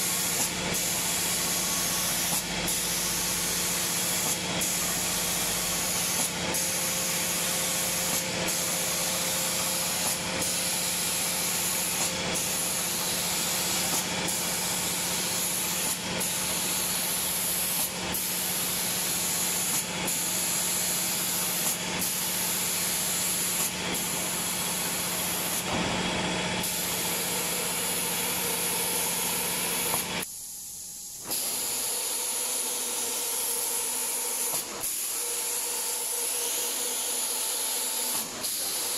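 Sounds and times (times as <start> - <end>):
spray gun hissing: 0.0 - 25.7, 26.6 - 30.2, 31.3 - 38.9
steady machine hum: 0.0 - 31.2.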